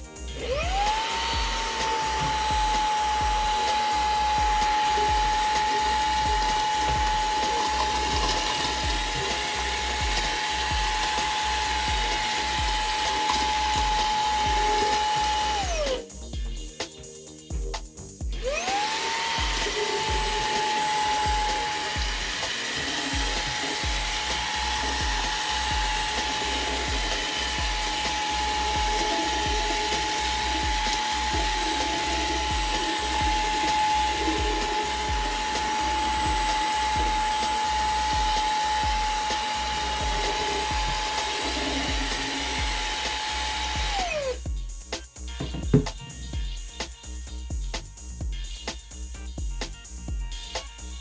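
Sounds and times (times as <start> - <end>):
vacuum cleaner motor whining: 0.0 - 16.1, 18.3 - 44.4.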